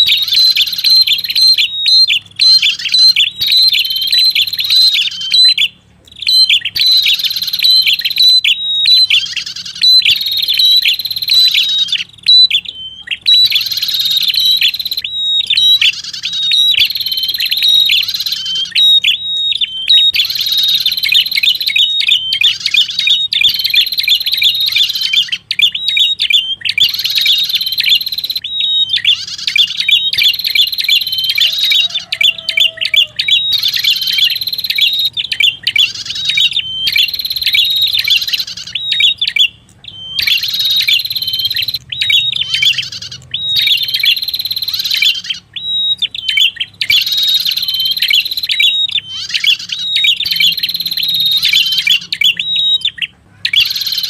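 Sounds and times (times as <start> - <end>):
songbird chattering: 0.0 - 54.0.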